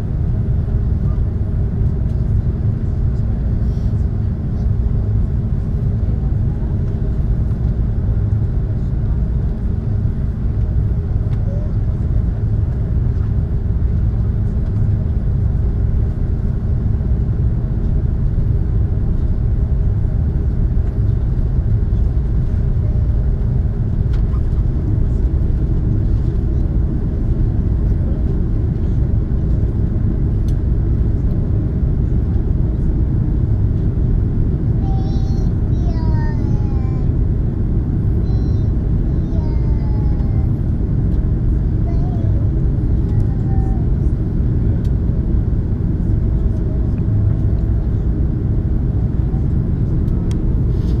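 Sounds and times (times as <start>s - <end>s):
aircraft cabin rumble: 0.0s - 51.0s.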